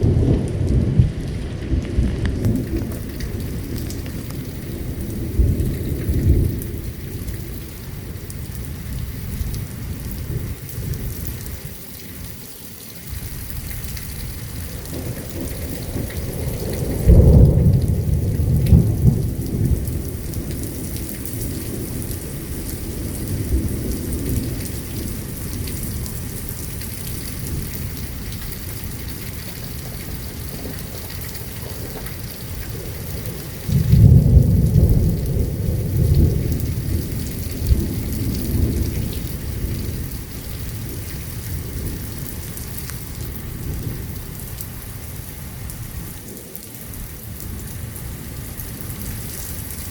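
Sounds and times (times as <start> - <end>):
rolling thunder: 0.0 - 12.3, 13.1 - 49.9
rain hissing: 0.0 - 49.9.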